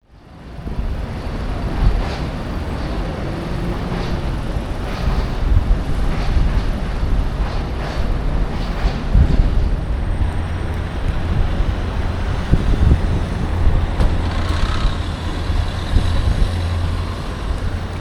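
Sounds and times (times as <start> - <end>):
traffic and town noise: 0.0 - 18.0
wind rumbling on microphone: 0.1 - 18.0.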